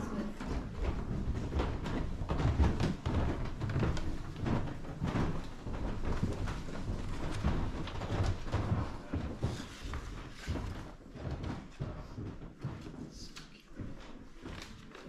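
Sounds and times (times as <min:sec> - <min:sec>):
footsteps: 0:00.0 - 0:15.0.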